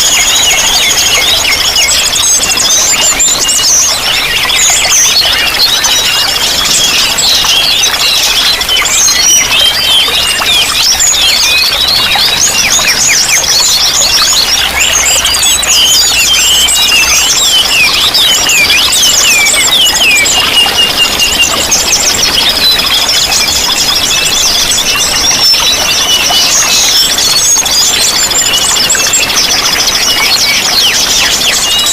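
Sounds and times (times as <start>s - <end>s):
running water: 0.0s - 31.9s
songbirds chirping: 0.0s - 31.9s.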